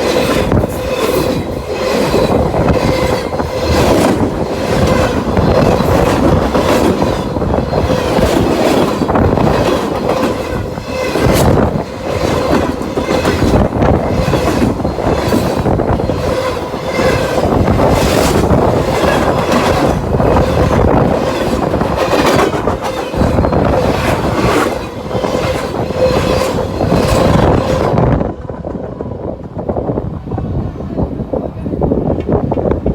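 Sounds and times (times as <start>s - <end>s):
wheel squeal: 0.0s - 28.0s
train wheels clattering over rail joints: 0.0s - 29.6s
wind noise: 0.0s - 32.9s.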